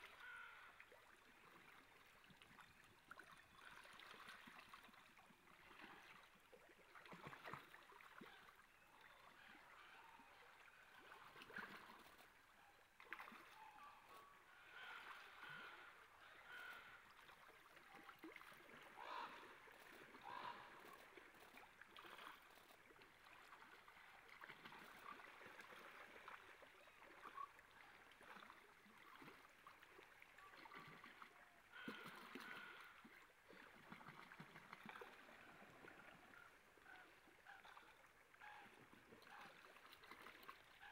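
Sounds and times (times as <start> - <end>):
faint flowing stream water: 0.0 - 40.9
water splashes: 0.0 - 40.9.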